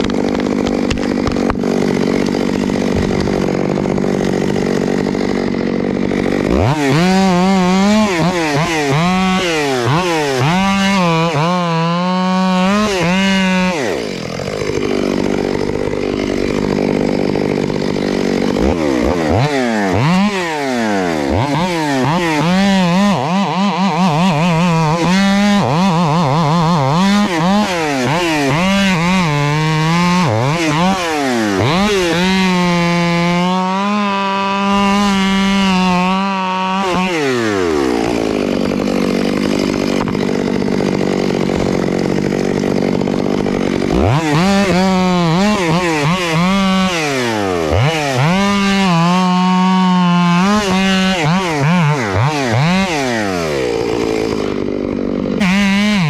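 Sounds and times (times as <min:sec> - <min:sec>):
chainsaw revving and idling: 0:00.0 - 0:56.0.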